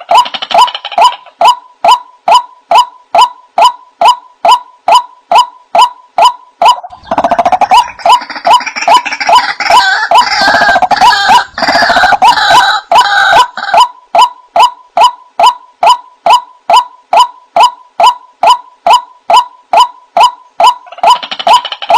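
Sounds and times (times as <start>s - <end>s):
waterhen calling: 0.0s - 21.9s.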